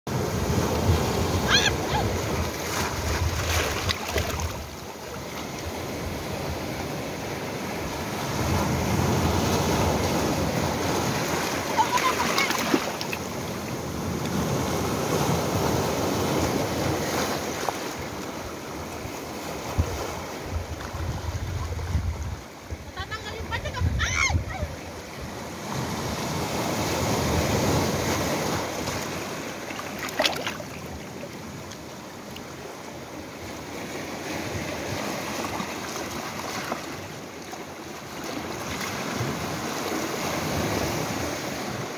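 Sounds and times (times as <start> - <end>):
surf washing over rocky shore: 0.1 - 41.9.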